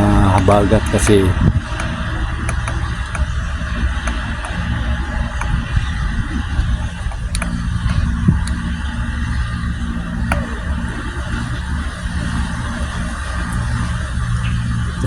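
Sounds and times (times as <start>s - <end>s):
engine hum: 0.0s - 15.0s
faint clicks: 0.0s - 15.0s
noise wash: 0.0s - 15.0s.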